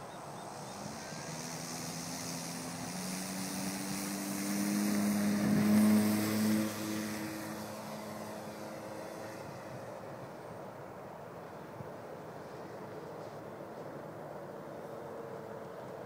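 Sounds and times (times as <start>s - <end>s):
model plane propeller drone: 0.0s - 16.0s.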